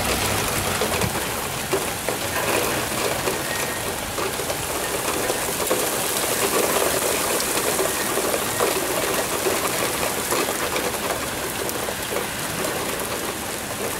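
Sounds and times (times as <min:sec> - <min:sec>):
heavy rain hissing: 0:00.0 - 0:13.9.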